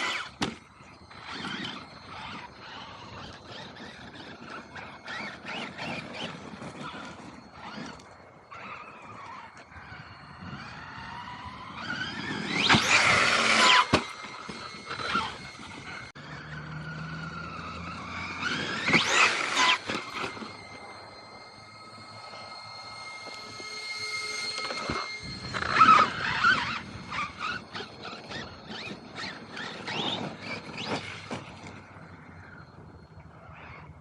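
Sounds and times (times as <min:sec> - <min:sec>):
rc car motor whine: 0:00.0 - 0:34.0
tyre squeal: 0:00.0 - 0:34.0.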